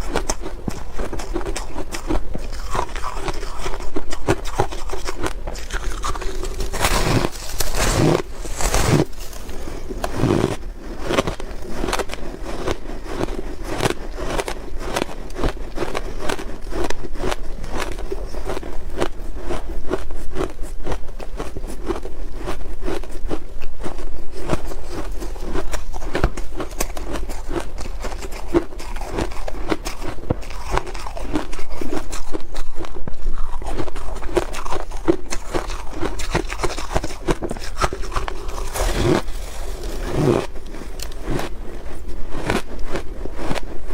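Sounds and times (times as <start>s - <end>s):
person crunching ice: 0.0s - 43.9s.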